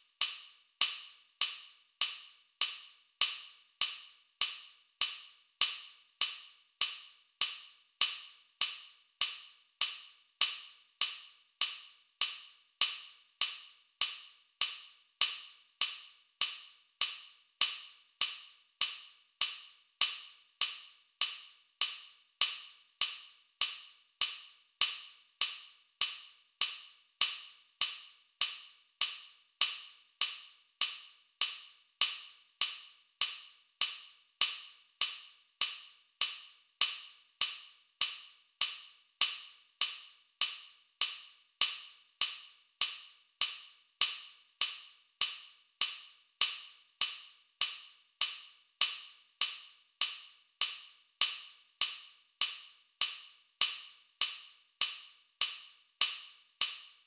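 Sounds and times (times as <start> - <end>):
metronome clicks: 0.2 - 57.0.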